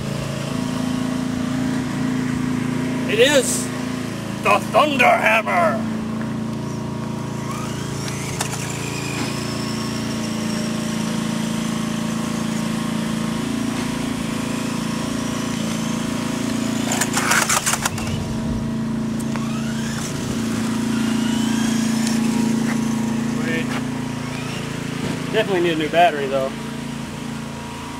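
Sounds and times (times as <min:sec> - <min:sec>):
electric motor whining: 0:00.0 - 0:27.9.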